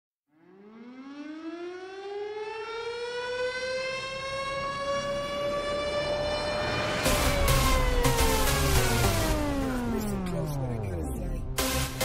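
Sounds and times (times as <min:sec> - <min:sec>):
siren wailing: 0:00.3 - 0:11.8.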